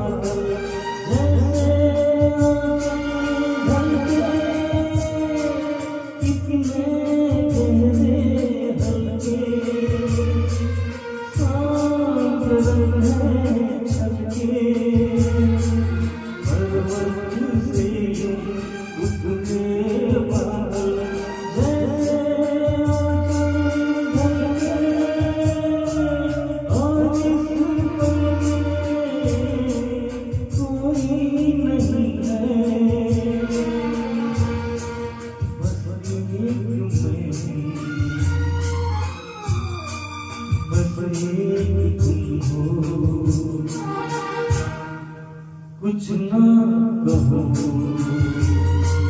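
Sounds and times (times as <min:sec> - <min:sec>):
pulsing bass: 0:00.0 - 0:43.8
person singing: 0:00.0 - 0:49.0.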